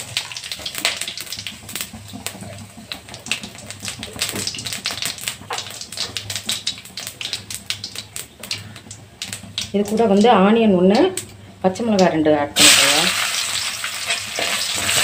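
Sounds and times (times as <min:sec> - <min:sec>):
seeds crackling and popping in oil: 0:00.0 - 0:15.0.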